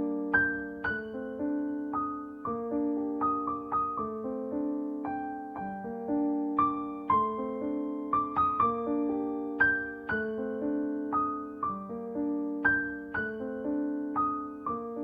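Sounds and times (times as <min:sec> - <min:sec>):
soft piano melody: 0:00.0 - 0:15.0.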